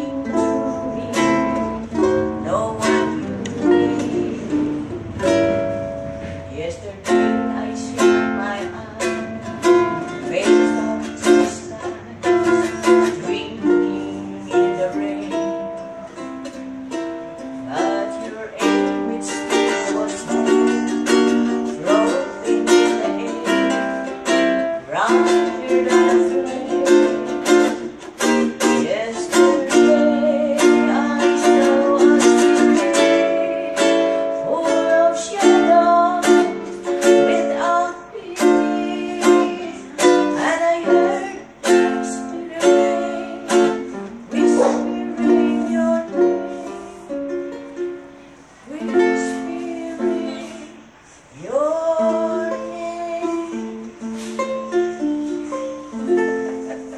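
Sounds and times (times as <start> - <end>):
ukulele strumming: 0.0 - 56.9.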